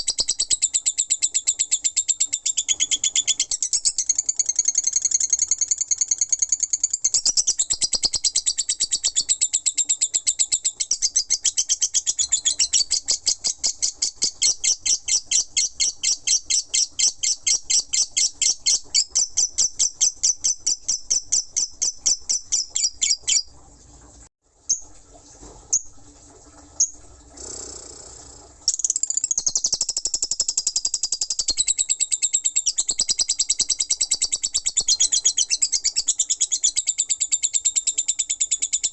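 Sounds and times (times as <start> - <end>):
lovebird rapid high chirps: 0.0 - 23.5, 28.7 - 38.9.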